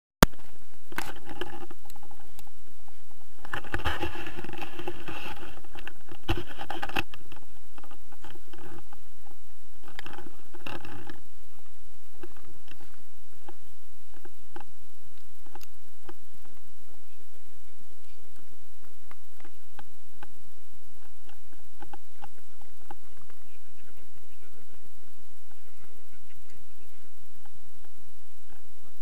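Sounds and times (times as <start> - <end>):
clothing rustling against camera: 0.4 - 28.7.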